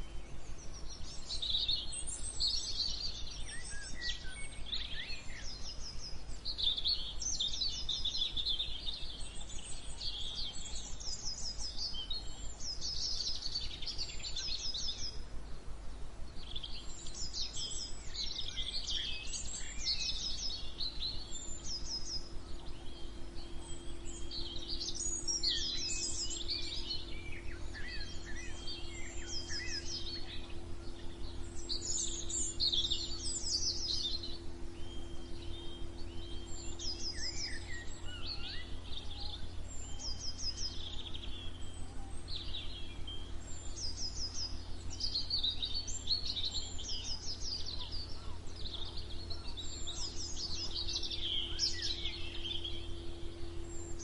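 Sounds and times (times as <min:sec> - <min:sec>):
low steady hum: 0:00.0 - 0:54.0
songbirds singing: 0:00.0 - 0:54.0.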